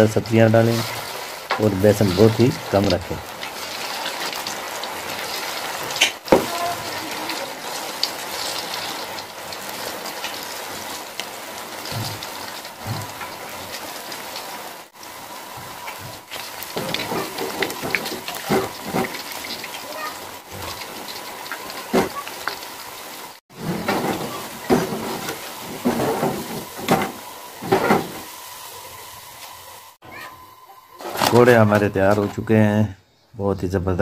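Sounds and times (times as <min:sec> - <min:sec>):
batter sizzling in hot oil: 0:00.0 - 0:30.3.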